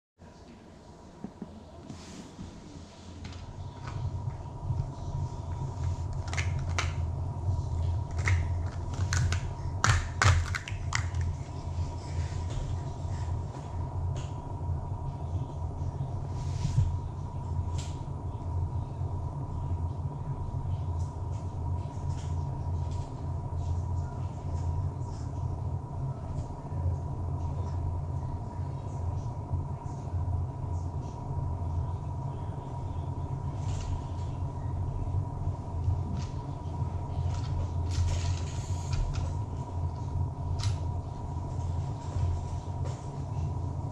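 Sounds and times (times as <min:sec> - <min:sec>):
steady low hum: 0:00.2 - 0:43.9.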